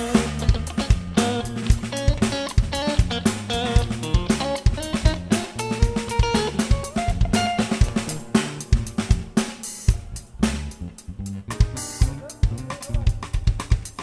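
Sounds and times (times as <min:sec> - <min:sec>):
bass line: 0:00.0 - 0:14.0
funk drum kit playing: 0:00.0 - 0:14.0.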